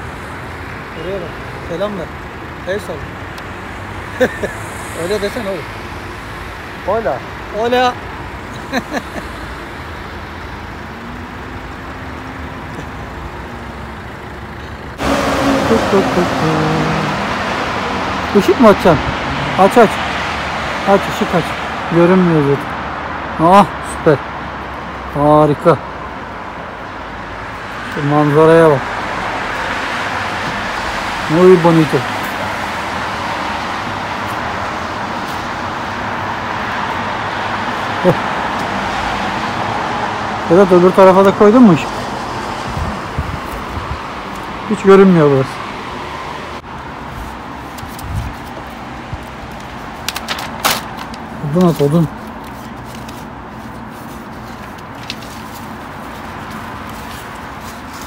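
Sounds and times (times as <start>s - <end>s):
rushing outdoor background noise: 0.0s - 58.0s.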